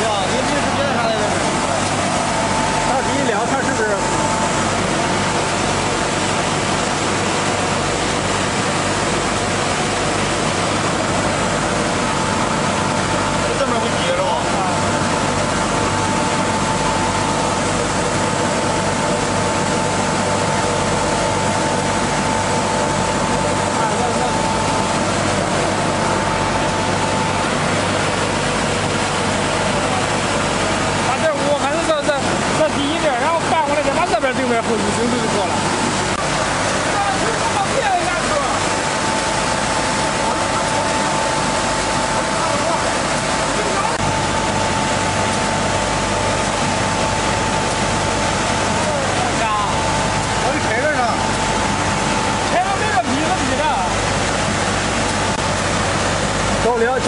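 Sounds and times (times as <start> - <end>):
thin steady whine: 0.0 - 57.0.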